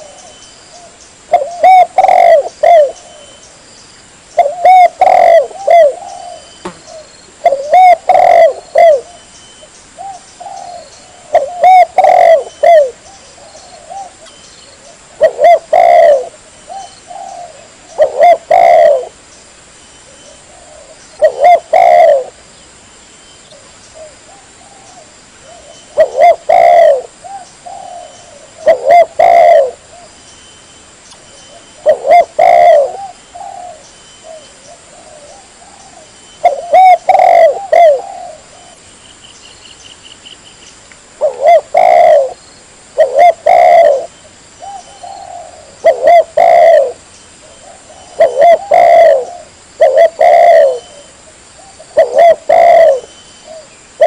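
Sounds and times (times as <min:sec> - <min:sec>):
dove cooing: 0:00.0 - 0:03.4, 0:04.4 - 0:09.3, 0:10.0 - 0:19.2, 0:20.2 - 0:22.4, 0:24.0 - 0:30.1, 0:31.5 - 0:38.8, 0:41.2 - 0:42.4, 0:43.0 - 0:53.7.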